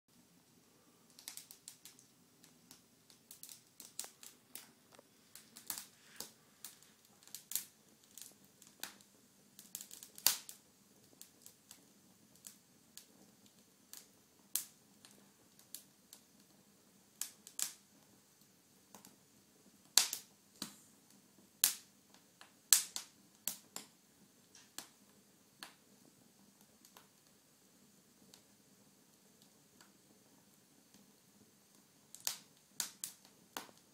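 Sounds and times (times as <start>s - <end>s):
logs crackling in fire: 0.1s - 33.9s.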